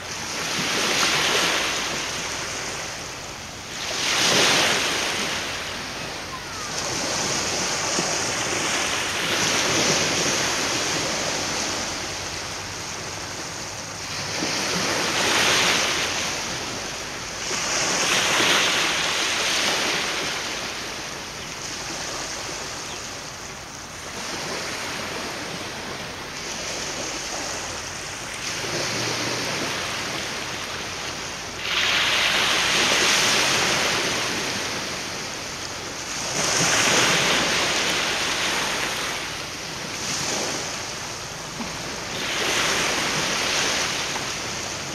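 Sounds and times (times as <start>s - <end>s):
waves washing on shore: 0.0s - 44.9s
wind: 0.0s - 44.9s.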